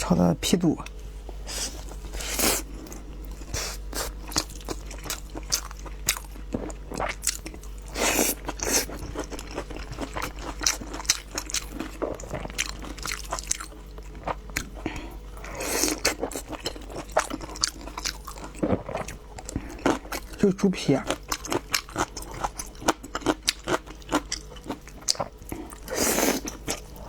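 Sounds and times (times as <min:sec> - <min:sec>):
person chewing crunchy food: 0:01.4 - 0:27.0.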